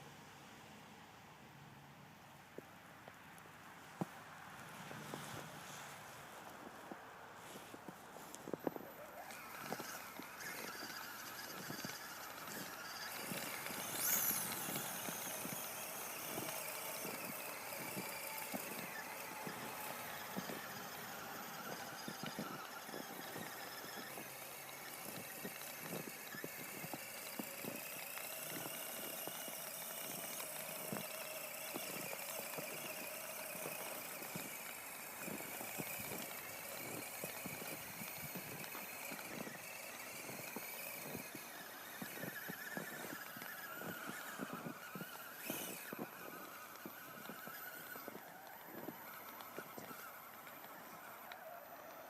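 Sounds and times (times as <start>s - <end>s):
tracks crunching through snow: 3.8s - 52.0s
electric motor whining: 7.5s - 52.0s.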